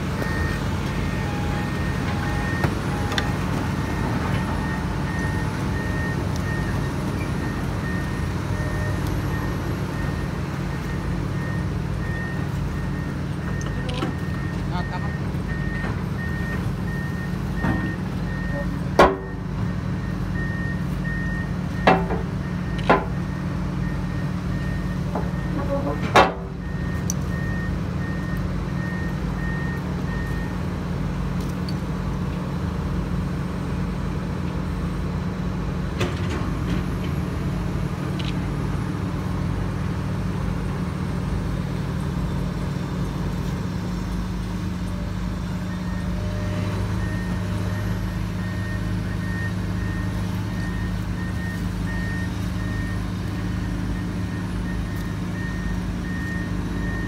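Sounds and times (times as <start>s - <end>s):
construction machinery droning: 0.0s - 57.0s.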